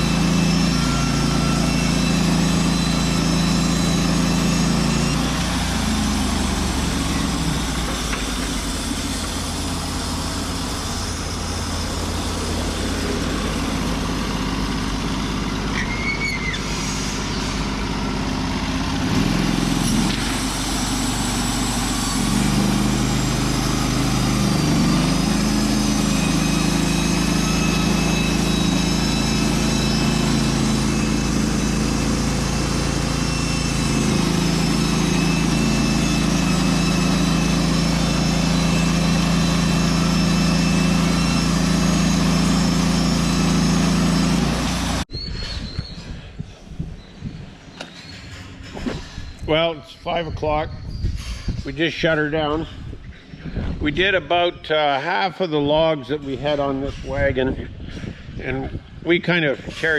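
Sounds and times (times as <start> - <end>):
band sawmill engine running: 0.0 - 45.1, 53.6 - 59.9.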